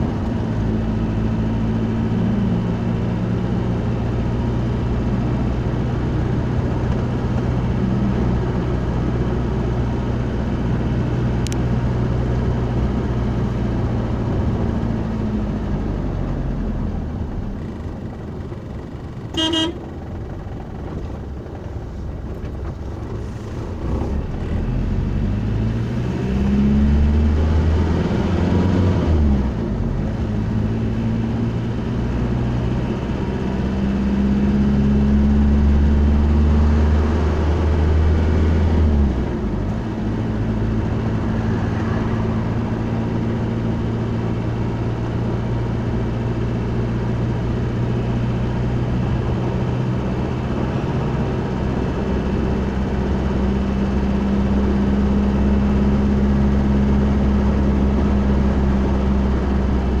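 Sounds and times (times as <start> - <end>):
vehicle engine and road noise: 0.0 - 60.0.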